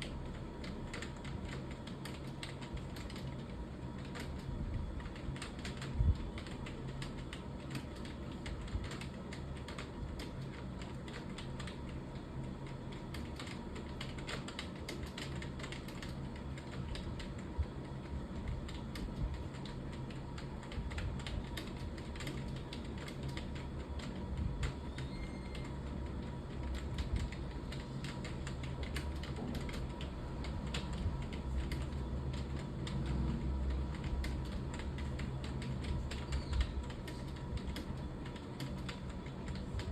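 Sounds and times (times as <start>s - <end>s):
fast typing on keyboard: 0.0s - 39.9s
steady low hum: 0.0s - 39.9s.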